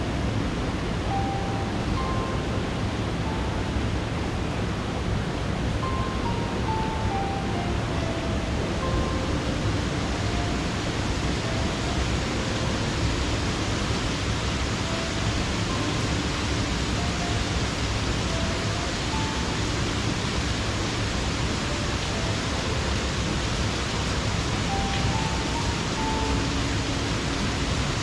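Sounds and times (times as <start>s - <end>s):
faint soft music: 0.0s - 28.0s.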